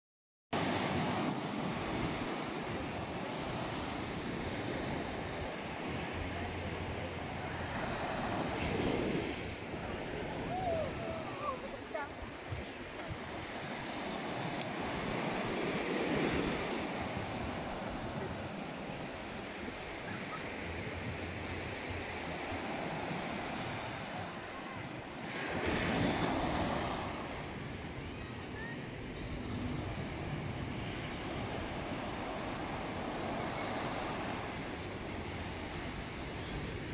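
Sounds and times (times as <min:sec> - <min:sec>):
waves washing on beach: 0:00.6 - 0:36.9.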